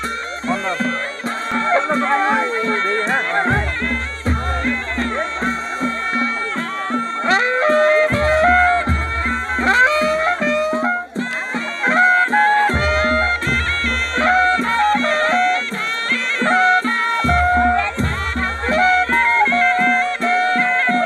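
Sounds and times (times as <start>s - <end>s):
drum strokes: 0.0s - 21.0s
reed pipes playing wavering melody: 0.0s - 21.0s.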